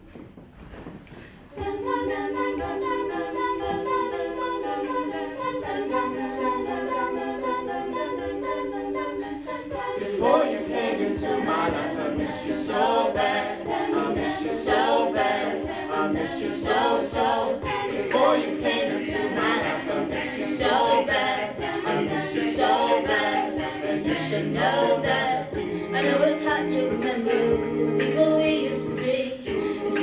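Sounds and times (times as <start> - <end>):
vocal percussion beat: 1.4 - 30.0
a cappella group singing harmony: 1.5 - 30.0.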